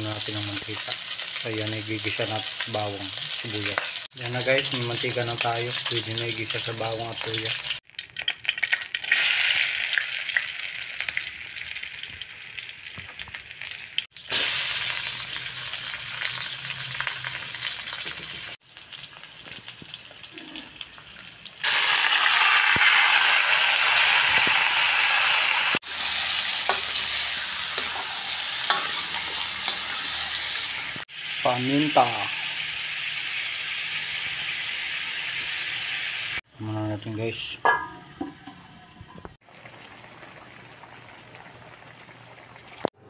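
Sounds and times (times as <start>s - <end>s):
food sizzling in a wok: 0.0s - 36.4s.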